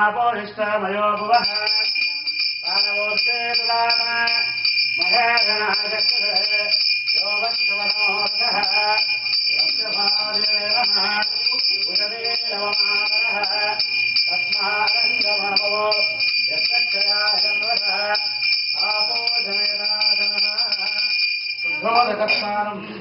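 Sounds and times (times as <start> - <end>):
hand bell ringing rapidly: 1.2 - 22.6
voices chanting: 1.4 - 22.7.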